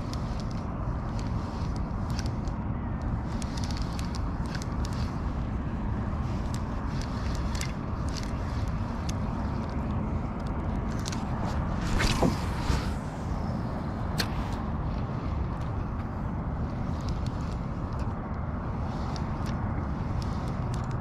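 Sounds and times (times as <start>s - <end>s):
small clicks: 0.0s - 12.4s, 14.1s - 21.0s
wind rumble on microphone: 0.0s - 21.0s.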